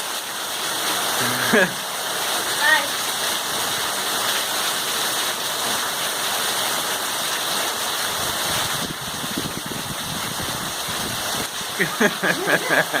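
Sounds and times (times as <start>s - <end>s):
heavy rain splashing: 0.0s - 13.0s.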